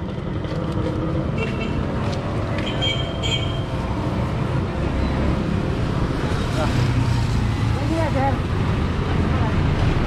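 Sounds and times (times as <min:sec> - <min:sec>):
passing cars and motorcycles: 0:00.0 - 0:10.0.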